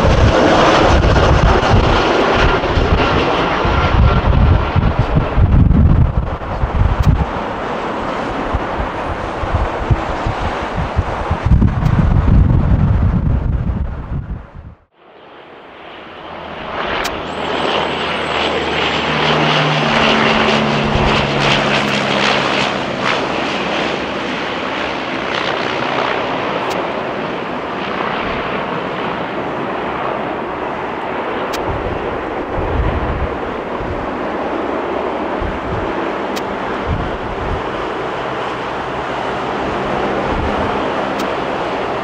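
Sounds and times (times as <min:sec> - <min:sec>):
airliner engines passing: 0:00.0 - 0:42.0
low drone: 0:00.0 - 0:42.0.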